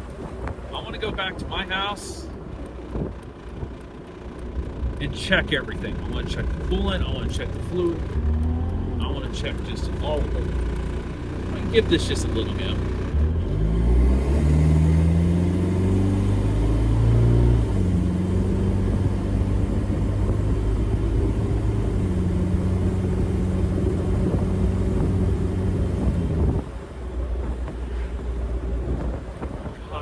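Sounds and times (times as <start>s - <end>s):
diesel engine accelerating: 0.0s - 30.0s.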